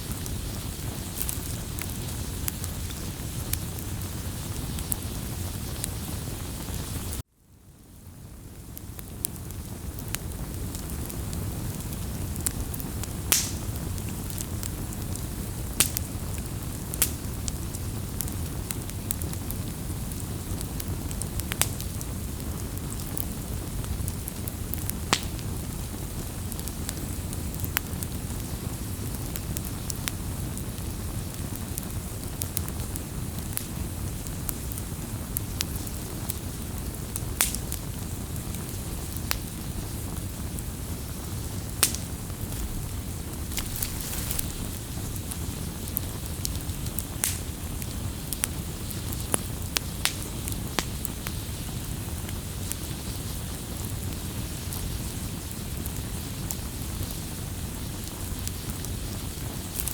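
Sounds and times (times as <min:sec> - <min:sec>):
crackles and pops of burning wood: 0:00.0 - 0:07.3, 0:08.2 - 0:59.9
campfire burning: 0:00.0 - 0:59.9.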